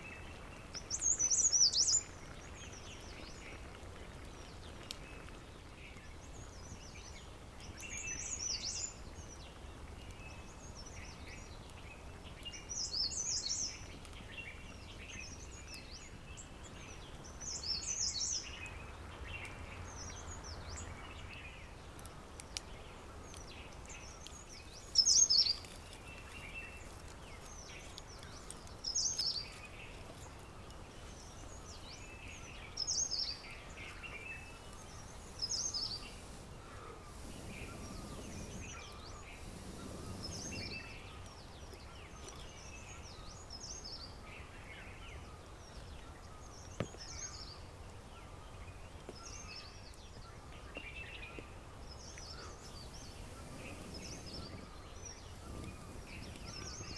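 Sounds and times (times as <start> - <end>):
faint chirping of birds: 0.0 - 56.9
faint outdoor hiss: 0.0 - 56.9.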